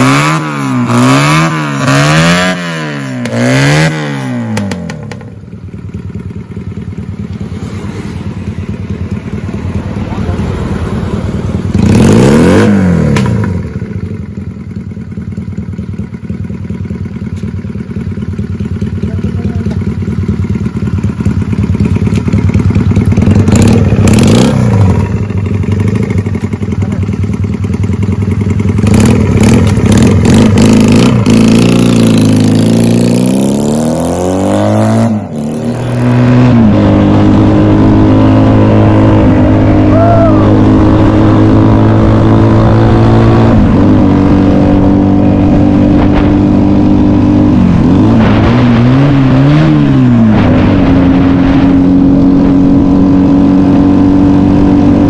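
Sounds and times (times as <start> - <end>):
motorcycle engine revving and accelerating: 0.0 - 55.0.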